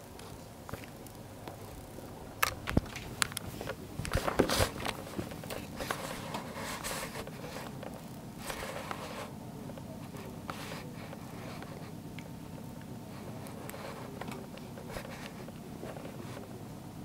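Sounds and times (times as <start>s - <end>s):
crackling rustle: 0.0s - 16.6s.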